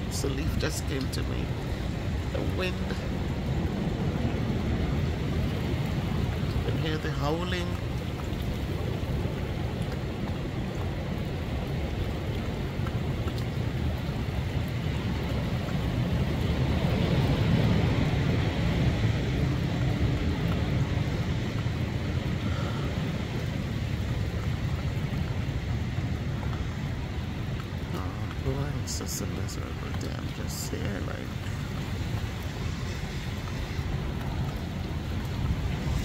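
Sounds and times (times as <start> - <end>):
storm wind howling: 0.0 - 36.0.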